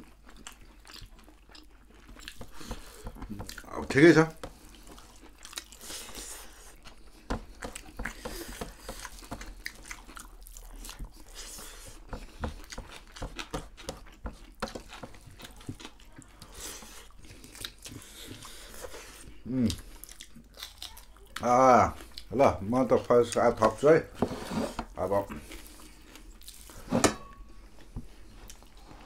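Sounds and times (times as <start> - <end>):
people chewing and biting food: 0.0 - 24.1, 24.9 - 29.0.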